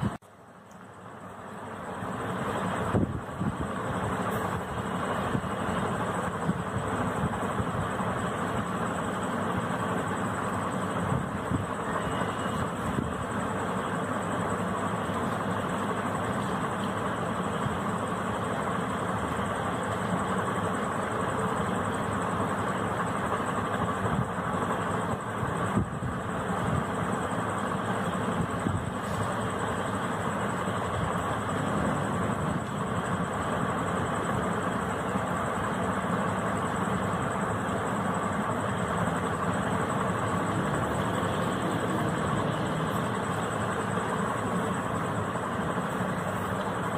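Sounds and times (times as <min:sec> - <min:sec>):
faint high-pitched whine: 0:00.0 - 0:46.9
low rumbling background noise: 0:00.0 - 0:46.9.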